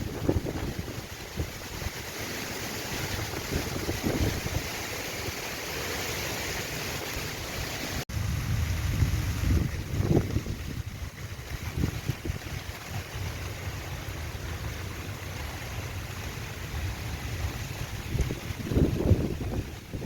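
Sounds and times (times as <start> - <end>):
heavy rain hissing: 0.0 - 20.0
wind rumbling on microphone: 0.0 - 20.0.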